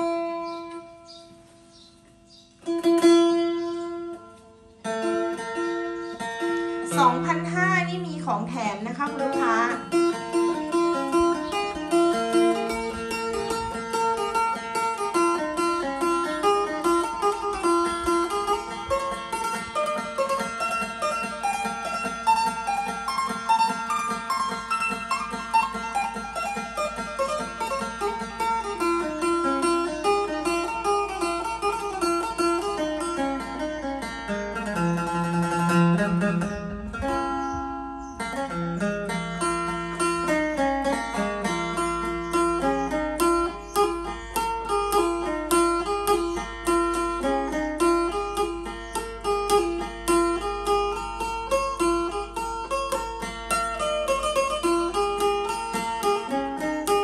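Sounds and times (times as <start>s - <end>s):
lute plucked over drone string: 0.0s - 57.0s.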